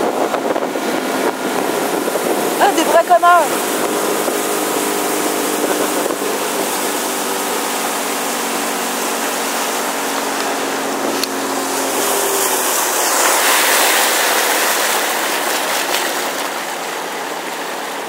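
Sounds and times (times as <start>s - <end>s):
motorboat engine: 0.0s - 18.0s
water rushing along hull: 0.0s - 18.0s.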